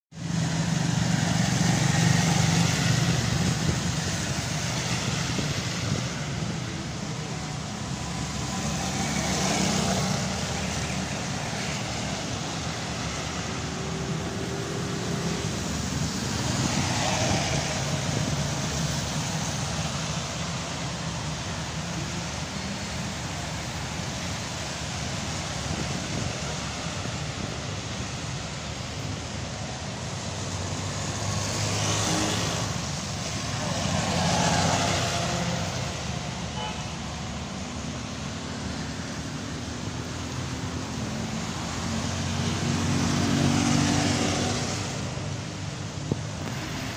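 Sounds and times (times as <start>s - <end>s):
traffic engine hum: 0.1s - 46.9s
tyres on wet road: 0.1s - 46.9s
rain hissing: 0.2s - 46.9s.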